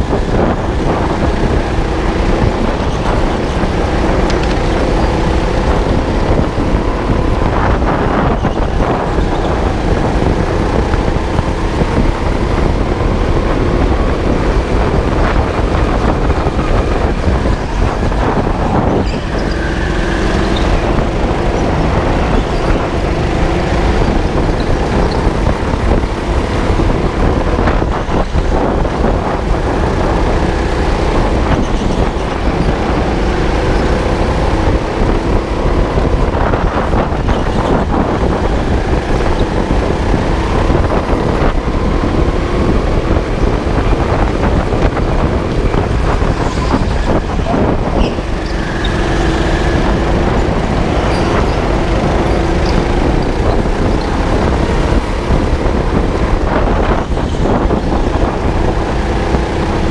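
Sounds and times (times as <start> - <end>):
go-kart motor: 0.0 - 59.9
rumble of vibration: 0.0 - 59.9.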